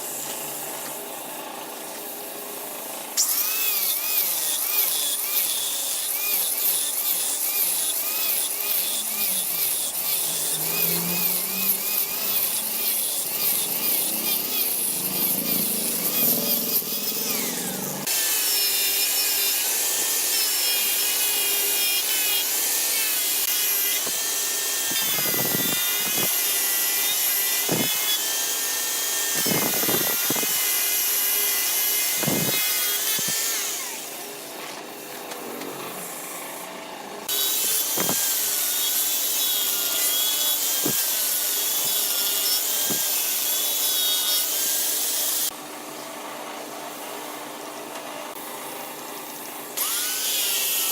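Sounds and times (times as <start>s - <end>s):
lathe tool shaving wood: 0.0s - 45.6s.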